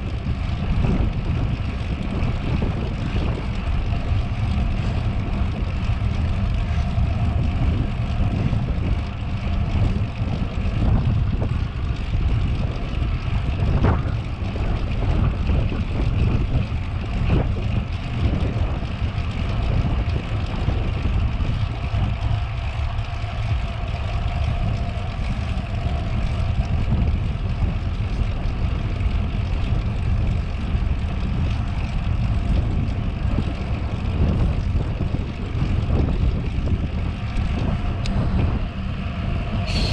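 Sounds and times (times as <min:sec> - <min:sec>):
bicycle tyre noise on pavement: 0:00.0 - 0:39.9
wind rumbling on microphone: 0:00.0 - 0:39.9.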